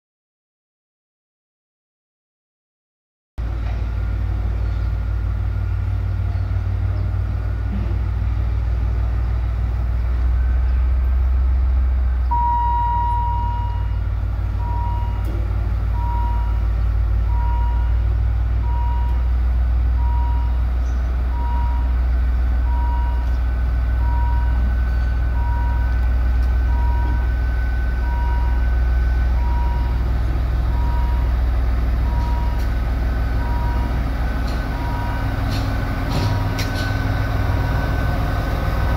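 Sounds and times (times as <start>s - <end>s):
diesel locomotive engine drone: 3.4s - 38.9s.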